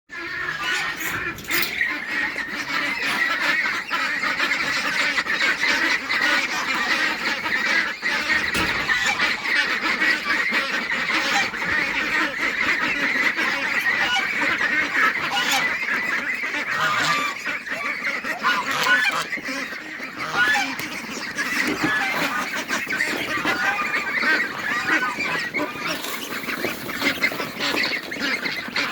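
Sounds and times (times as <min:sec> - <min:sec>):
geese honking: 0:00.1 - 0:28.9
poultry flock calling: 0:00.1 - 0:28.9.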